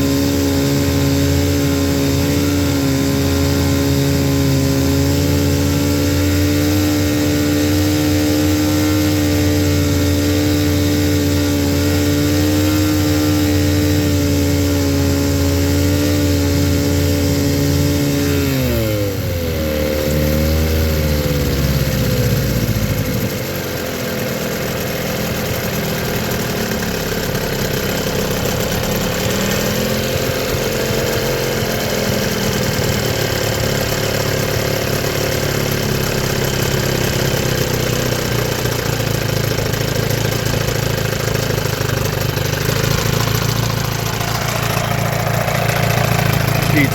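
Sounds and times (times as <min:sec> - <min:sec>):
outboard motor running: 0:00.0 - 0:46.9.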